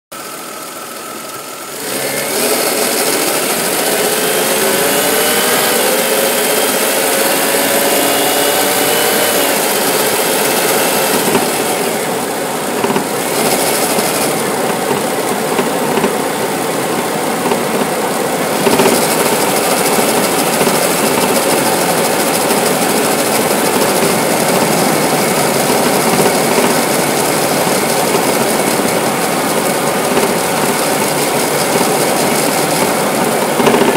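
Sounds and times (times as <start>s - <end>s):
car engine running: 0.1s - 33.9s
rising whines: 0.3s - 16.2s, 18.4s - 33.9s.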